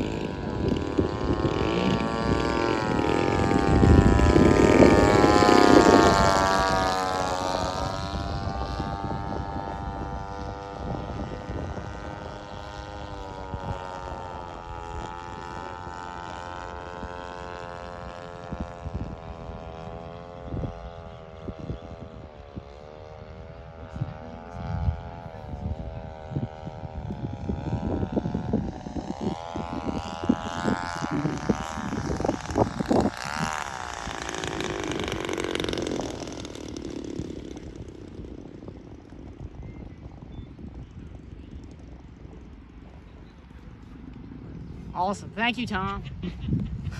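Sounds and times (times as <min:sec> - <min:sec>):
model plane propeller drone: 0:00.0 - 0:46.9.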